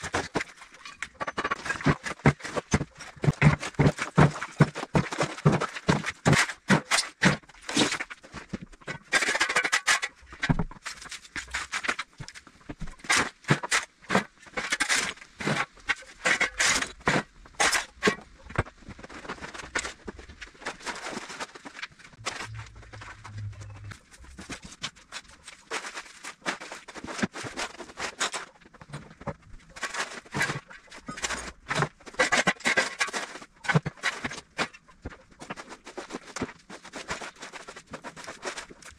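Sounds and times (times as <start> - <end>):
bricks clattering and scraping: 0.0 - 38.9.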